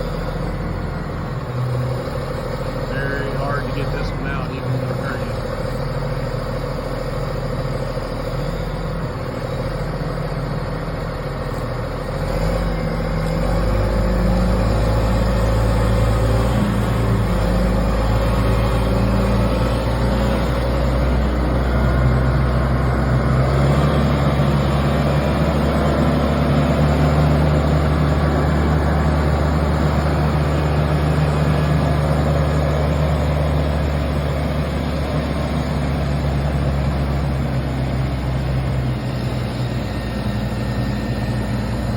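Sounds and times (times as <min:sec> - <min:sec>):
heavy machinery engine running: 0:00.0 - 0:41.9.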